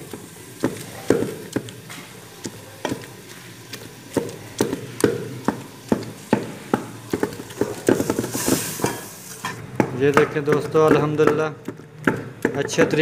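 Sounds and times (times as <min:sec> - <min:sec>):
pestle pounding in a steel bowl: 0:00.0 - 0:13.0.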